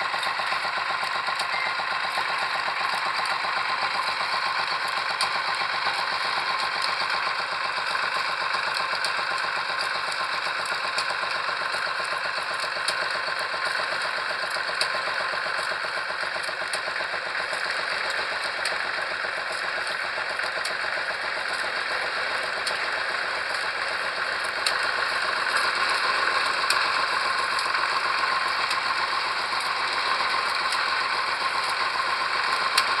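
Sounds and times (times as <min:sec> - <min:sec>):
pile-driving rig engine rattling: 0:00.0 - 0:33.0.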